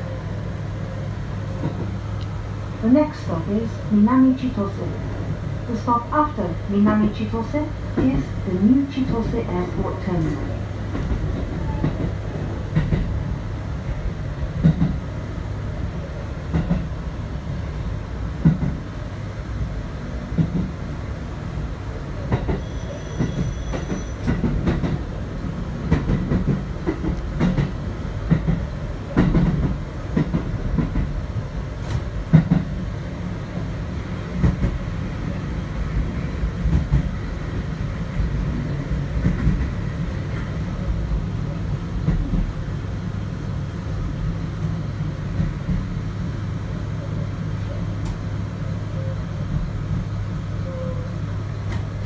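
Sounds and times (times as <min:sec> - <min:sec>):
train interior rumble and hum: 0:00.0 - 0:52.0.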